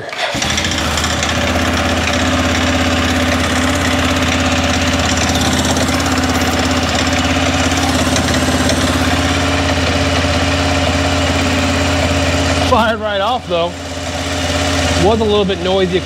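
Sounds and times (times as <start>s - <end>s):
atv engine running: 0.1s - 16.0s.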